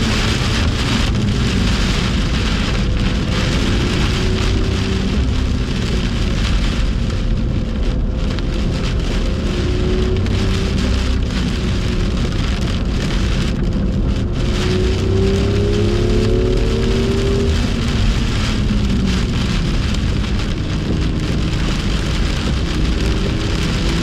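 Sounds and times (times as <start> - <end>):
car engine accelerating: 0.0 - 24.0
heavy rain hissing: 0.0 - 24.0.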